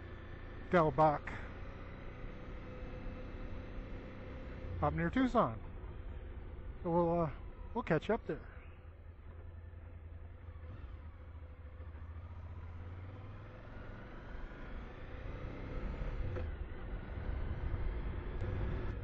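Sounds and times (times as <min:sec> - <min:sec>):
motorcycle engine accelerating: 0:00.0 - 0:07.9, 0:08.6 - 0:19.0.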